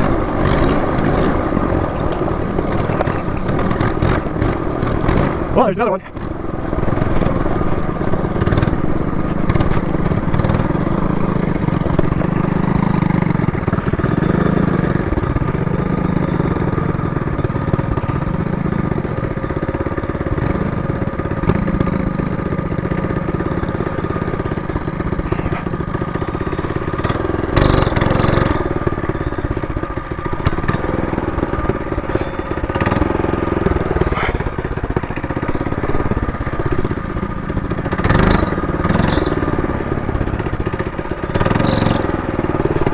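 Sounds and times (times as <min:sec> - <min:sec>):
minibike engine running: 0:00.0 - 0:42.9.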